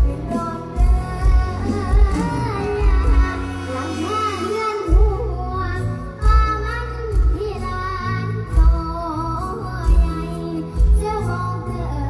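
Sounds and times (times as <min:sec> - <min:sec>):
girl singing into a microphone: 0:00.0 - 0:12.0
live band with heavy bass: 0:00.0 - 0:12.0.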